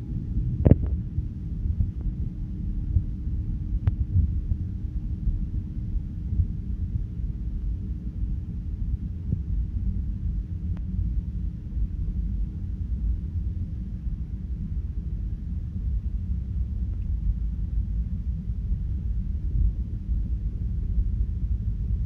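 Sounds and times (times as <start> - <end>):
faint steady drone: 0.0 - 22.0.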